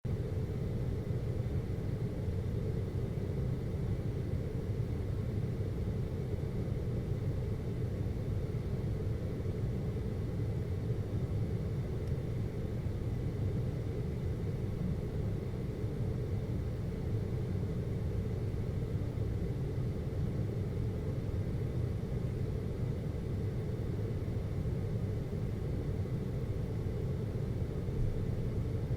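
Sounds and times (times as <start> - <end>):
air conditioner humming: 0.1 - 28.9
faint high whine: 0.1 - 28.9.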